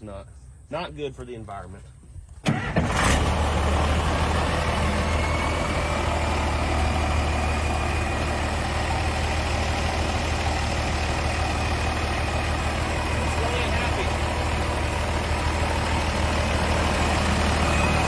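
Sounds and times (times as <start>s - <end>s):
bulldozer diesel engine idling: 2.5s - 18.0s.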